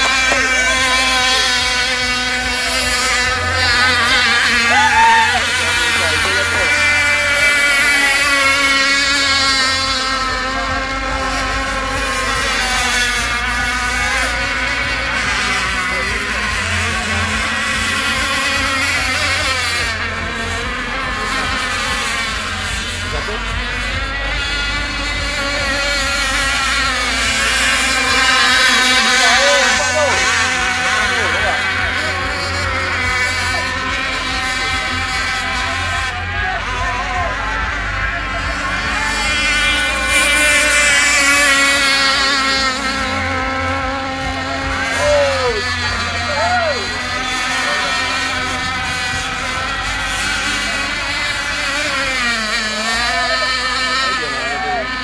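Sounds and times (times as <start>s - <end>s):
model boat engines buzzing: 0.0s - 55.0s.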